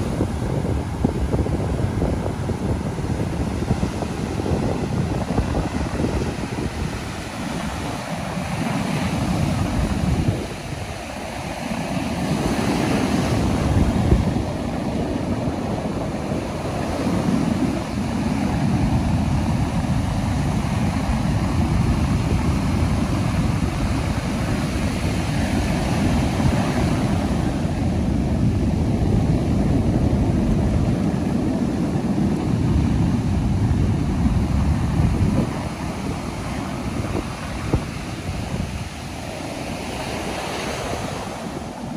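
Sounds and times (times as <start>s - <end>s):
ocean surf breaking on beach: 0.0s - 41.9s.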